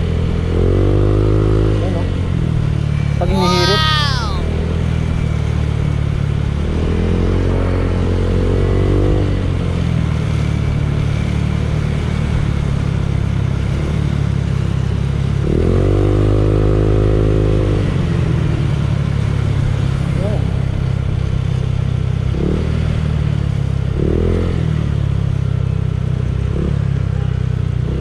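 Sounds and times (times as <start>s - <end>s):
scooter engine idling and revving: 0.0s - 3.1s, 5.1s - 28.0s.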